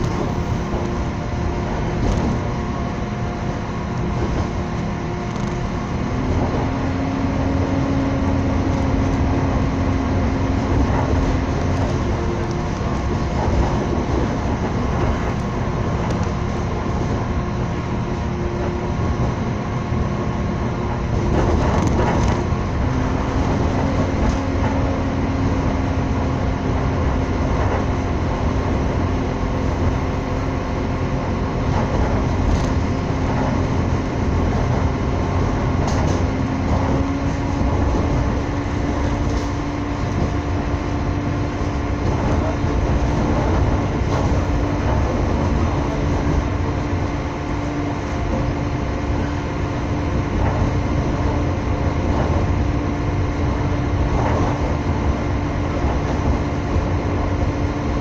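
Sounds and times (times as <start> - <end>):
constant droning hum: 0.0 - 58.0
train clatter: 0.0 - 58.0
train wheels rumbling on rails: 0.0 - 58.0.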